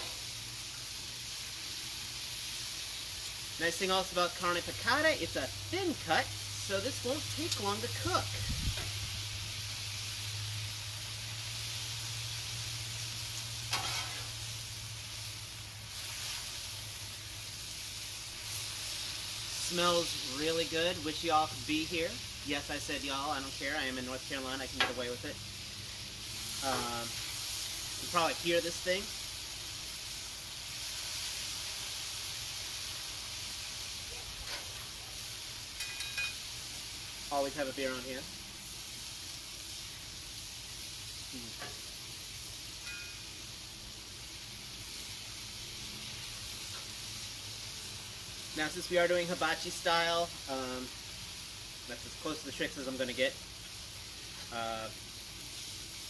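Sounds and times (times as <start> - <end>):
beef sizzling on griddle: 0.0 - 56.0.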